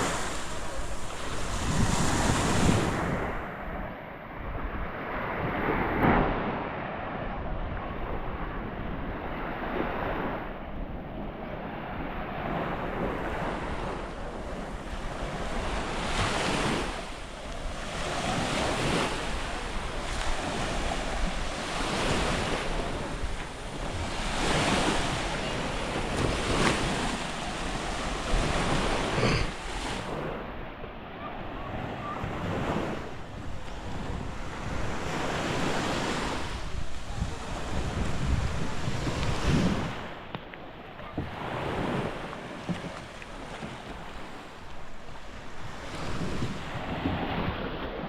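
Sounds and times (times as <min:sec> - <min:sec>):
small waves washing onto sand: 0:00.0 - 0:04.0, 0:04.8 - 0:48.0
wind buffeting microphone: 0:00.0 - 0:30.7, 0:31.3 - 0:48.0.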